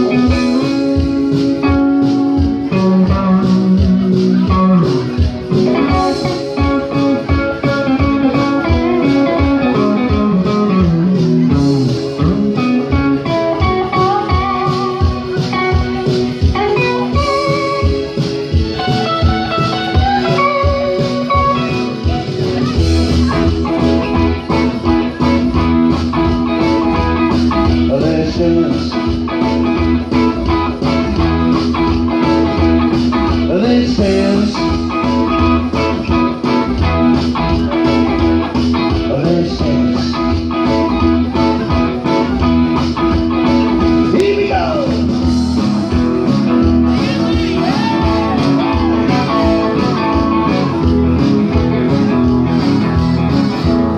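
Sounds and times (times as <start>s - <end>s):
electric guitar sliding notes: 0.0s - 53.9s
live band music over speaker: 0.0s - 53.9s.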